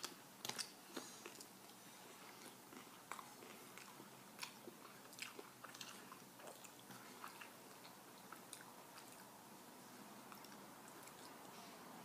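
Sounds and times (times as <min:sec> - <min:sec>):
chewing with wet mouth clicks: 0:00.0 - 0:09.4, 0:10.3 - 0:11.6.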